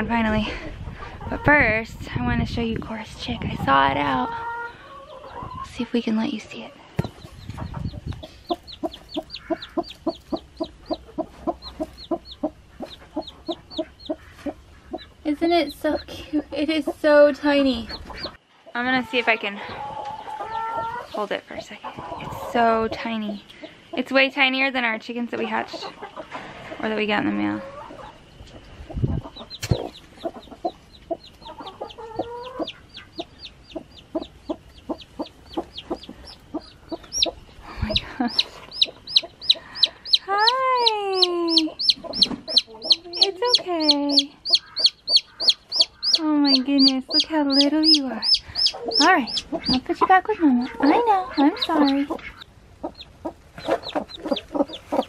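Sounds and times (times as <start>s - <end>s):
chick peeping: 0.6s - 55.0s
hen clucking: 3.1s - 55.0s.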